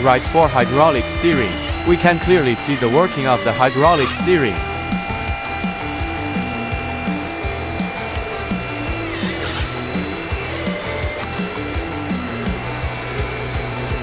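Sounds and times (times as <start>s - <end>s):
music with steady beat: 0.0s - 14.0s
small hydraulic pump whine: 0.0s - 14.0s.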